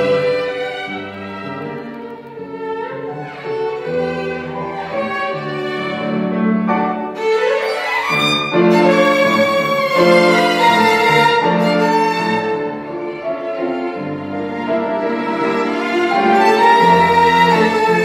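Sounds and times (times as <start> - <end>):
piano accompaniment: 0.0 - 18.0
violins playing a tango: 0.0 - 18.0.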